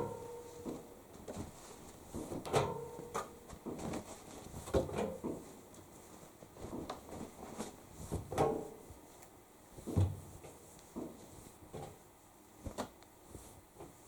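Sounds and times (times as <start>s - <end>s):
soft thuds of laundry: 0.0s - 9.0s, 9.7s - 14.0s
fabric rustling: 0.3s - 14.0s.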